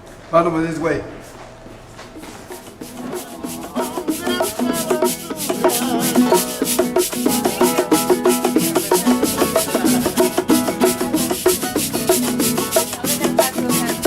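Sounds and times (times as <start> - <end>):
hand percussion and shakers: 2.2 - 14.0
latin background music: 2.2 - 14.0.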